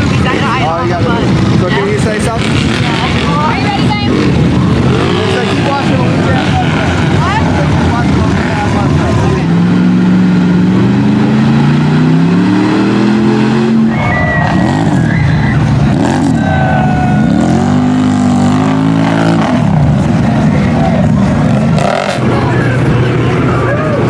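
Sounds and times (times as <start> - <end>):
atv engines revving: 0.0 - 24.0
truck engine revving: 0.0 - 24.0.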